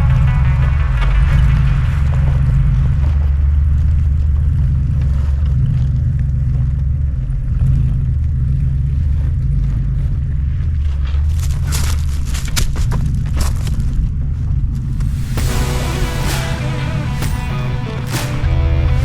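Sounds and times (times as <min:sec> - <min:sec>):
van engine low rumble: 0:00.0 - 0:19.0.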